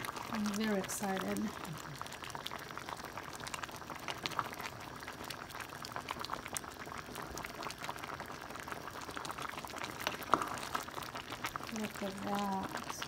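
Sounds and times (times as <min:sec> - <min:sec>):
soup bubbling and popping: 0:00.0 - 0:13.0.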